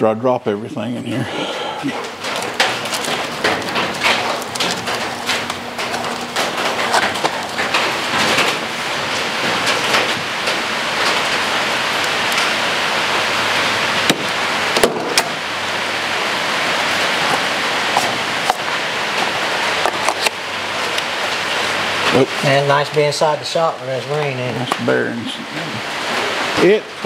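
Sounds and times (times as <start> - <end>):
rain on a roof: 1.4 - 27.0.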